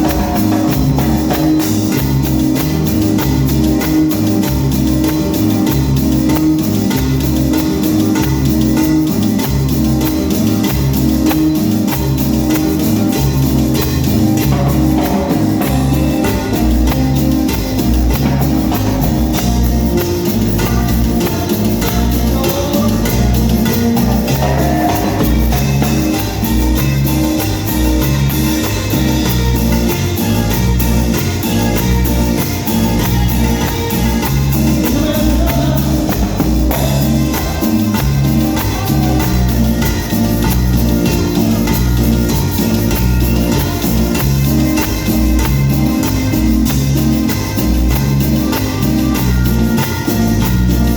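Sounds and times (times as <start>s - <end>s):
latin dance band music: 0.0s - 50.9s.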